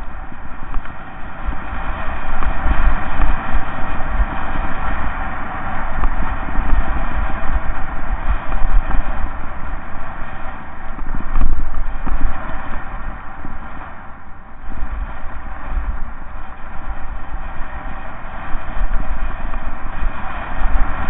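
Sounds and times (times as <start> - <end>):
bike rattling: 0.0 - 21.0
low rumble: 0.0 - 21.0.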